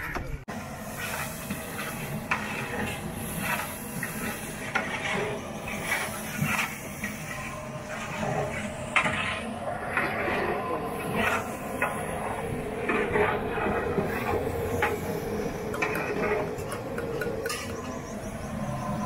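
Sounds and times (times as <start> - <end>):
gas burner hissing: 0.5 - 19.0.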